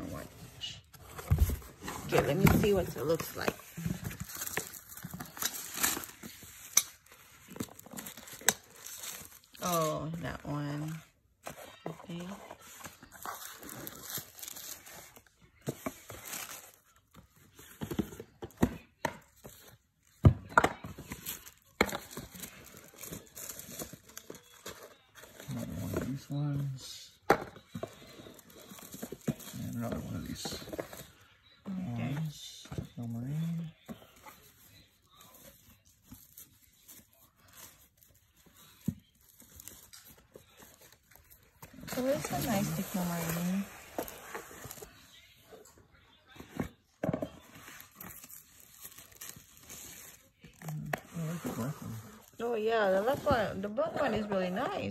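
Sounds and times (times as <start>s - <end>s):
wrapping crinkling and rustling: 0.0s - 54.9s.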